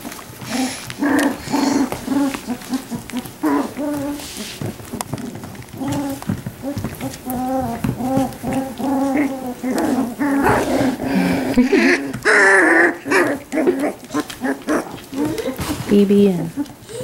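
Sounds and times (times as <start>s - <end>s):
puppies whining and yipping: 0.0s - 15.9s, 16.5s - 17.0s.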